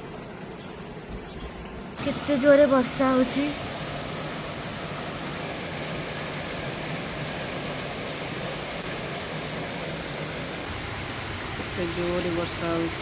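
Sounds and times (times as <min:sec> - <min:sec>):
heavy rain on leaves and paving: 0:02.0 - 0:13.0.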